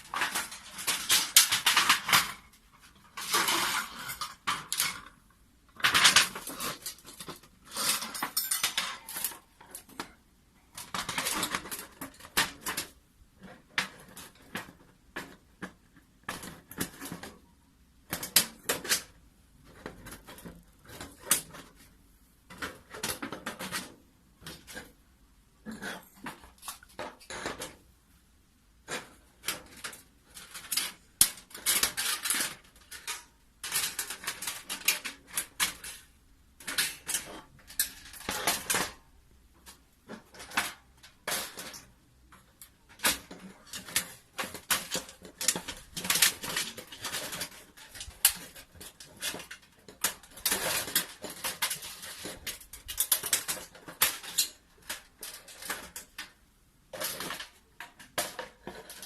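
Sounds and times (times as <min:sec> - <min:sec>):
metal sheets clicking and crinkling: 0:00.0 - 0:28.0, 0:28.8 - 0:59.0.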